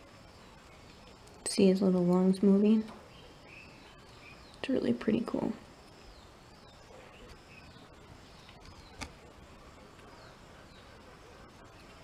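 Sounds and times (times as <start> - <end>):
distant birds chirping: 0.0 - 12.0.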